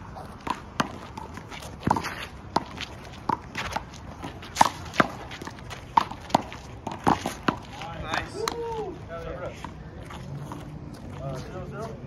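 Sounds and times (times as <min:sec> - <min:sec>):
shoes scuffing on court: 0:00.0 - 0:12.0.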